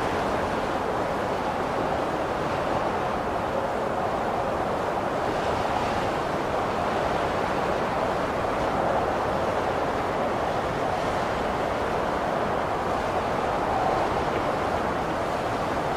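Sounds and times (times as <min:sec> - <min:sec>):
steady rush of wind: 0:00.0 - 0:15.9.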